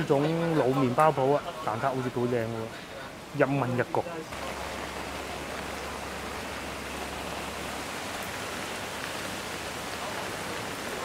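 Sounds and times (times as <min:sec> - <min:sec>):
heavy rain on a street: 0:00.0 - 0:11.0.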